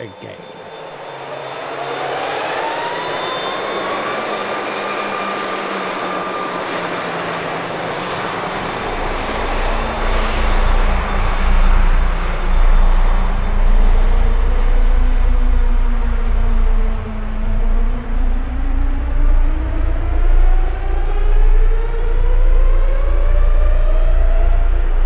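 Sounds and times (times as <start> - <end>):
jet engines spooling up: 0.0 - 25.0.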